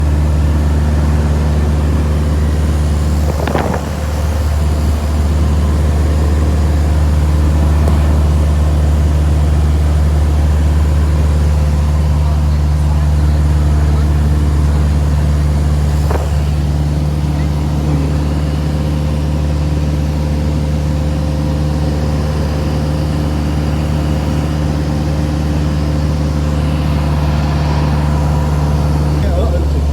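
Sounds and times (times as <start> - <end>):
airplane engine droning: 0.0 - 29.9.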